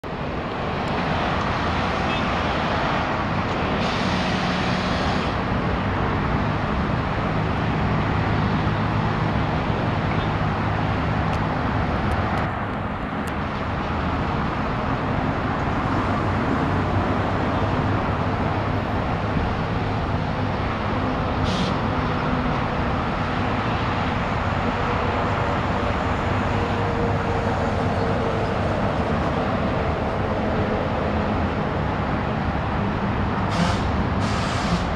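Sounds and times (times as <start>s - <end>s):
passing traffic: 0.0s - 34.9s
construction machinery engine: 0.1s - 34.9s.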